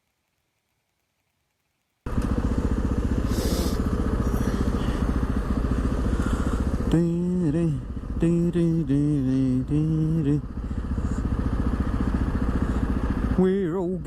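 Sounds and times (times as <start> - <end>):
motorcycle engine running: 2.1 - 14.0.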